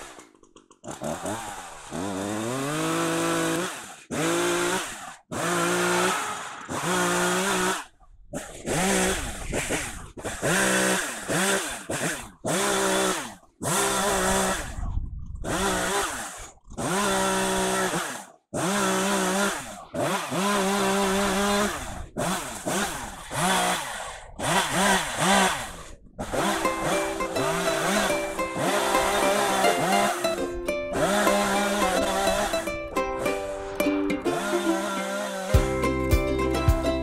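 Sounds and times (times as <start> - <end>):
chainsaw revving in bursts: 0.0 - 14.8, 15.4 - 35.8.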